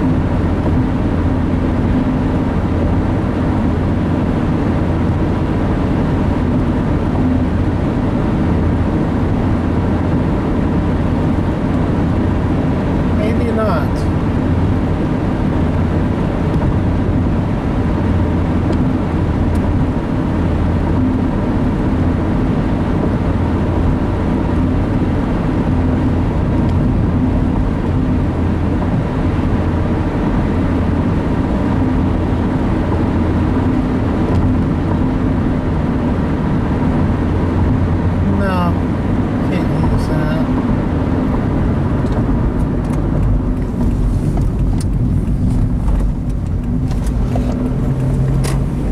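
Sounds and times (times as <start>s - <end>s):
car road and engine noise: 0.0s - 48.9s.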